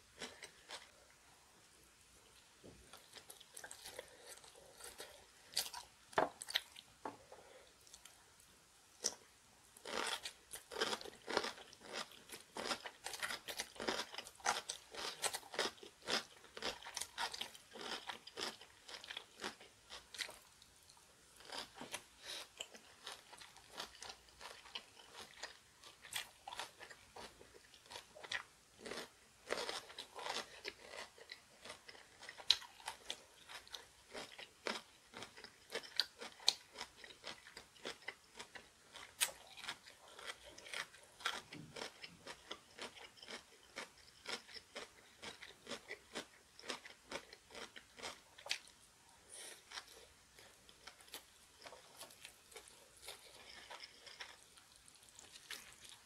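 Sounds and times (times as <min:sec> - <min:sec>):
person chewing crunchy food: 0:00.1 - 0:01.1, 0:02.7 - 0:08.2, 0:09.0 - 0:56.0.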